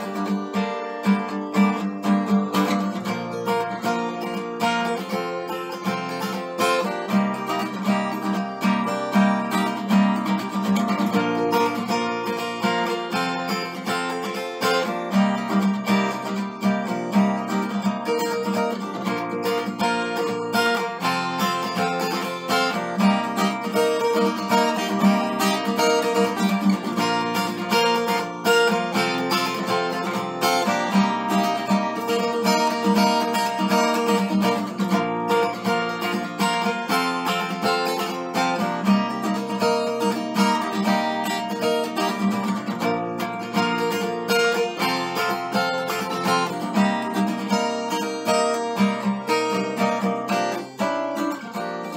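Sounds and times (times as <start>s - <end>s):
acoustic guitar chords and plucking: 0.0s - 51.9s.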